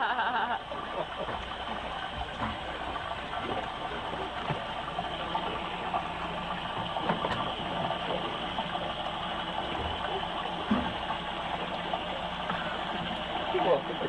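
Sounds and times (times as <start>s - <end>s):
water rushing and splashing: 0.3s - 14.0s.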